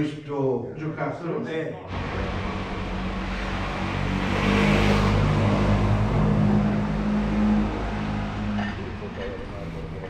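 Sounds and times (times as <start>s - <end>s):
vehicle engine humming: 1.9s - 10.0s.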